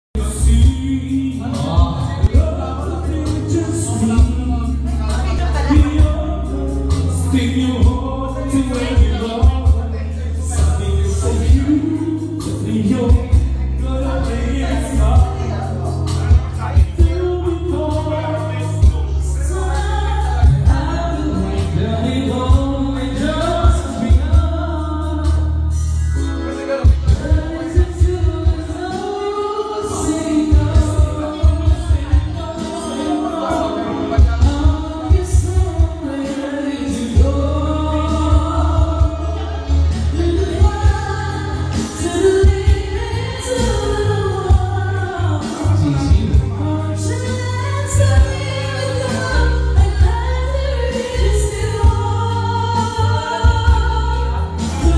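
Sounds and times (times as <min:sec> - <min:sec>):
amplified backing music: 0:00.1 - 0:54.9
woman and men singing: 0:00.2 - 0:26.2, 0:26.8 - 0:54.9.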